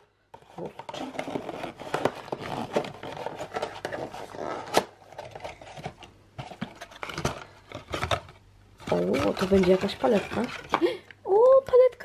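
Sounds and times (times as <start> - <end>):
cardboard box rustling and scraping: 0.4 - 10.8.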